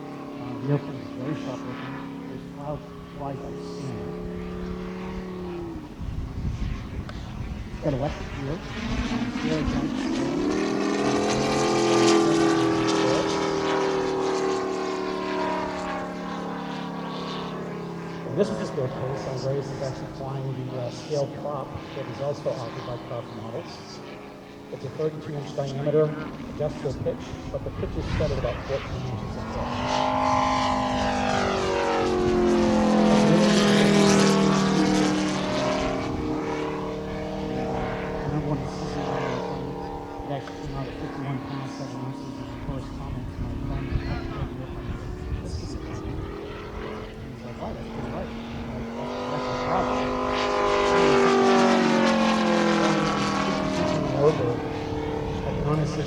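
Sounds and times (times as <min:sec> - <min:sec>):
model plane engine drone: 0:00.0 - 0:56.0.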